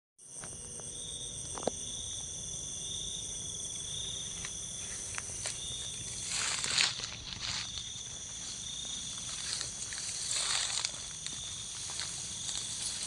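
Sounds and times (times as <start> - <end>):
insect chorus trilling: 0.2 - 13.0.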